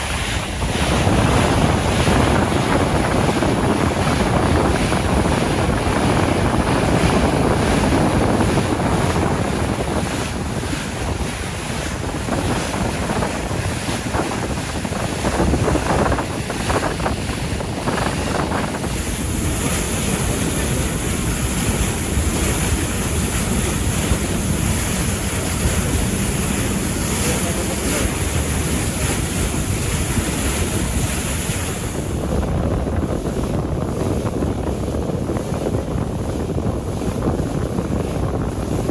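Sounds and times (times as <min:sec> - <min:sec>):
waves rushing: 0:00.0 - 0:38.9
wind buffeting microphone: 0:00.0 - 0:38.9.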